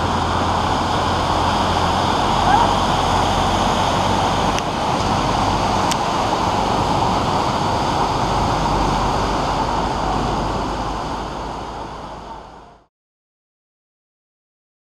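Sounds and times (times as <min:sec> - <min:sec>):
floodwater rushing down street: 0:00.0 - 0:12.9.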